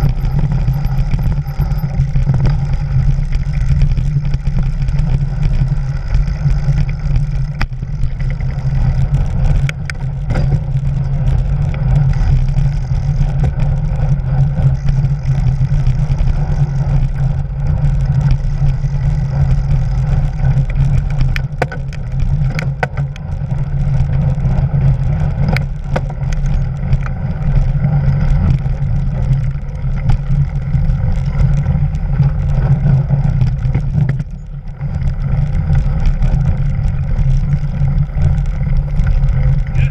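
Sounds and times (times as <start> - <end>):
bike knocks and rattles: 0.0 - 39.9
bike tyres rumbling on snow: 0.0 - 39.9.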